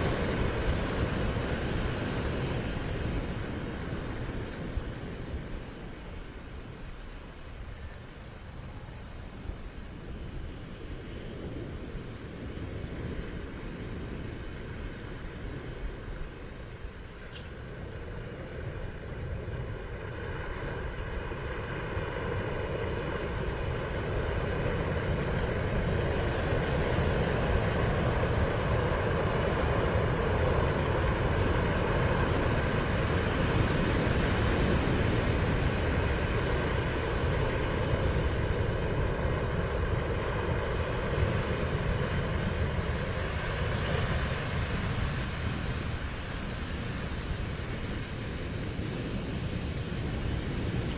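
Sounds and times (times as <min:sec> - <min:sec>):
small waves breaking on beach: 0:00.0 - 0:08.0, 0:08.6 - 0:50.9.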